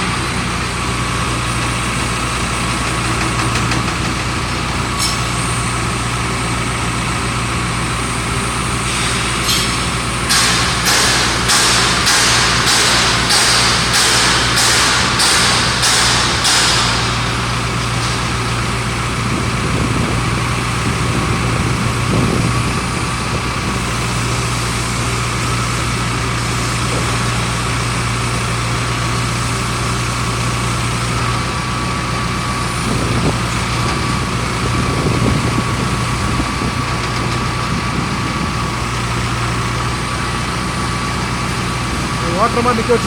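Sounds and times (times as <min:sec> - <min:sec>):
drill rig engine droning: 0:00.0 - 0:43.0.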